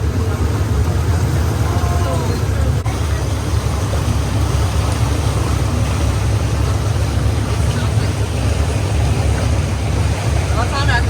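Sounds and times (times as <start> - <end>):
boat engine rumble: 0.0 - 11.0
water rushing: 0.0 - 11.0.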